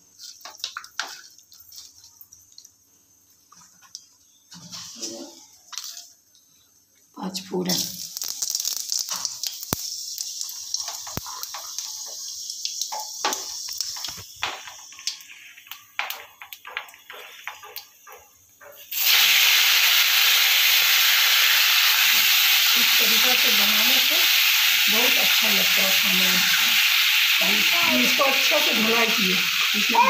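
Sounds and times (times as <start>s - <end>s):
fish sizzling in oil: 0.0s - 6.2s, 7.6s - 30.0s
seeds crackling in hot oil: 0.0s - 30.0s.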